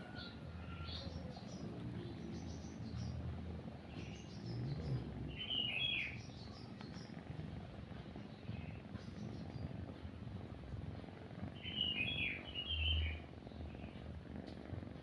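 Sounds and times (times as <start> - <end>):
cat purring: 0.0 - 15.0
small birds chirping: 0.0 - 15.0.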